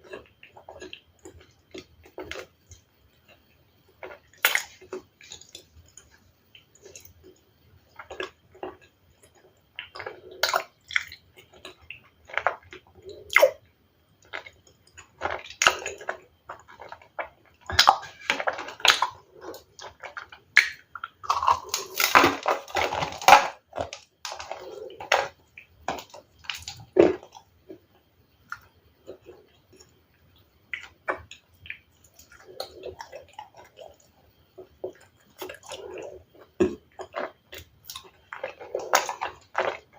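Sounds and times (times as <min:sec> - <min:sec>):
crunching ice while chewing: 0:00.0 - 0:02.8, 0:06.8 - 0:13.6, 0:14.2 - 0:27.8, 0:30.8 - 0:39.9.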